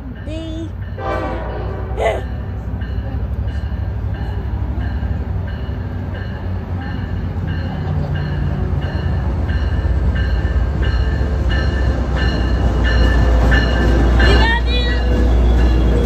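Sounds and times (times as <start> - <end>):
diesel locomotive engine rumble: 0.0 - 16.0
locomotive bell ringing: 0.0 - 16.0.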